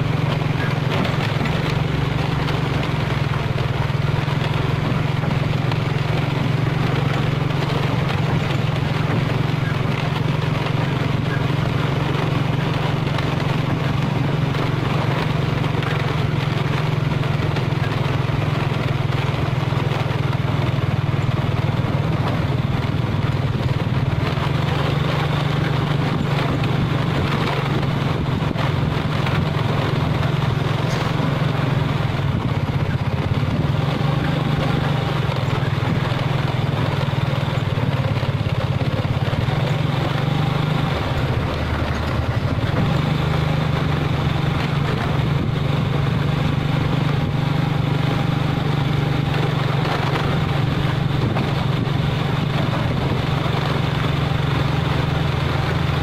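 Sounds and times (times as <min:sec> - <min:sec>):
road and wind noise: 0:00.0 - 0:56.0
vehicle engine humming: 0:00.0 - 0:56.0.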